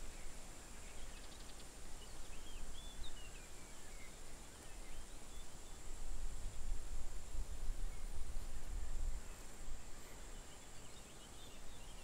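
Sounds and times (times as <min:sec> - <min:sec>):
small birds chirping: 0:00.0 - 0:06.6, 0:07.4 - 0:12.0.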